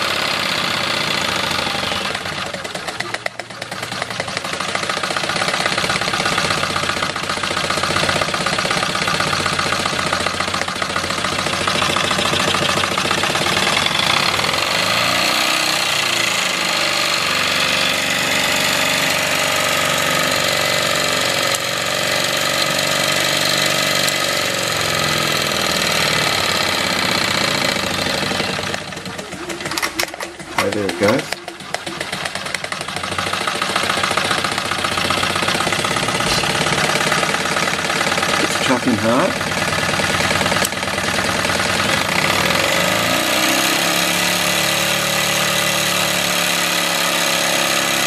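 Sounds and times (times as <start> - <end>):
model steam engine whirring: 0.0 - 48.0.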